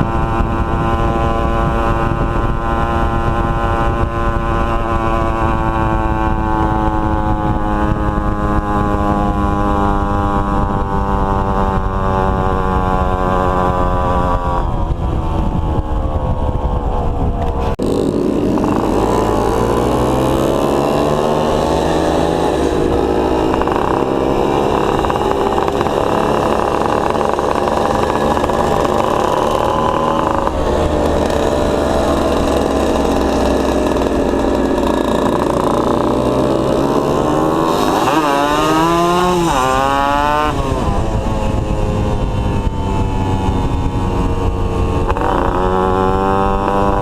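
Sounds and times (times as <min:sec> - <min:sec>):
two-stroke motorcycle engine: 0:00.0 - 0:47.0.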